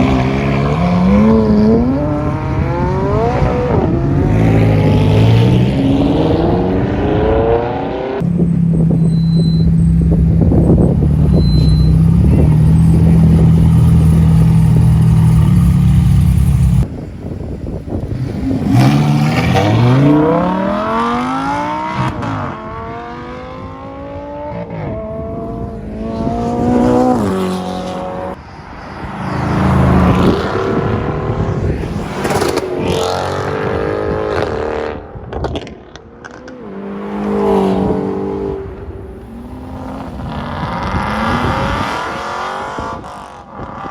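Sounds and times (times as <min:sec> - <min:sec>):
sports car engines accelerating: 0:00.0 - 0:43.9.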